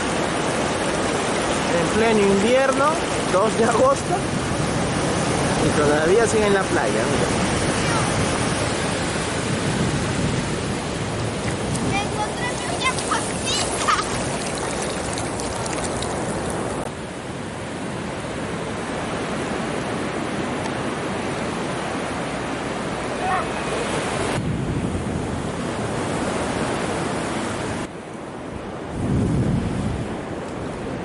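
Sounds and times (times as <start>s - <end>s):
ocean surf on beach: 0.0s - 31.0s
wind buffeting microphone: 0.0s - 31.0s.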